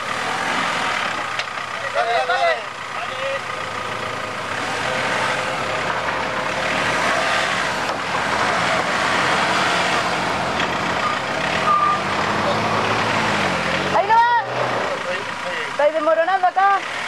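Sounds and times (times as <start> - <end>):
off-road vehicle running: 0.0 - 17.0.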